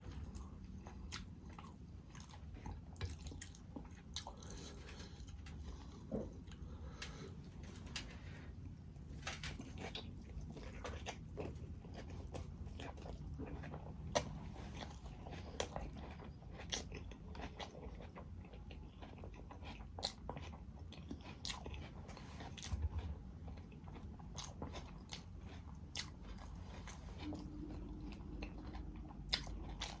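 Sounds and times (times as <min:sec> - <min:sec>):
person chewing crunchy food: 0:00.0 - 0:30.0.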